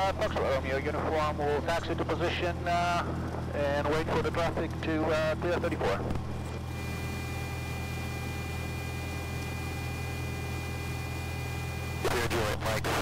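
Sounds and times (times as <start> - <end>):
aircraft engine idling: 0.0 - 13.0
faint electrical whine: 0.0 - 13.0.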